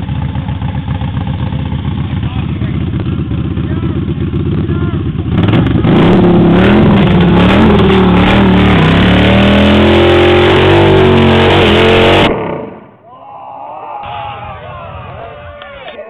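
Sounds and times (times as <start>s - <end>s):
motorcycle engine revving hard: 0.0s - 13.0s.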